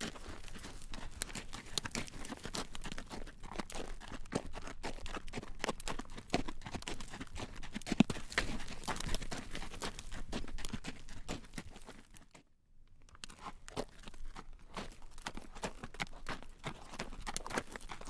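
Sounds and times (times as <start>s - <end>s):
horse hooves clip-clopping on road: 0.0s - 12.3s, 13.3s - 18.0s.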